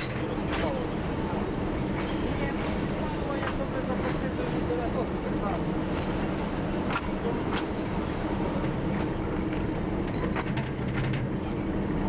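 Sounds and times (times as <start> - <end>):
diesel locomotive engine droning: 0.0 - 12.0
wheels clicking on rails: 0.0 - 12.0.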